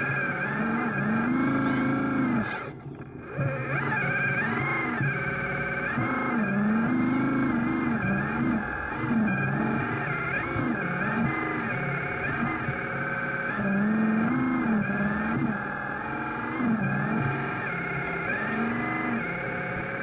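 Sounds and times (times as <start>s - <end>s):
toy engine revving: 0.0s - 20.0s.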